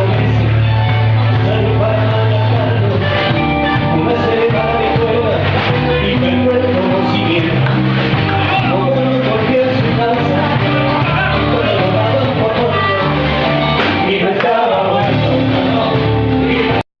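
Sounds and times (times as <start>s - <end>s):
rock band with singer and guitar: 0.0s - 16.8s.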